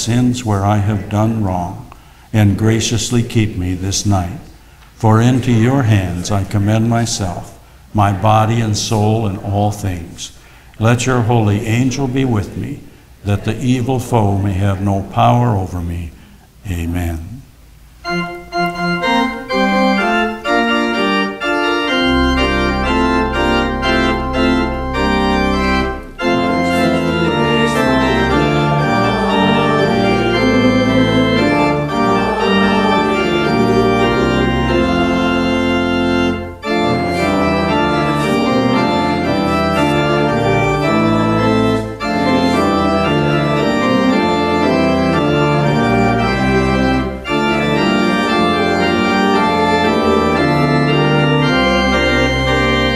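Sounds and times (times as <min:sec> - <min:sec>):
church organ playing chords: 0:00.0 - 0:52.9.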